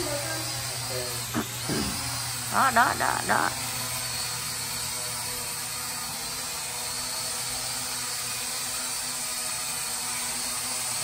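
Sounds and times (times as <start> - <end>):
toy drone buzzing whine: 0.0 - 11.0.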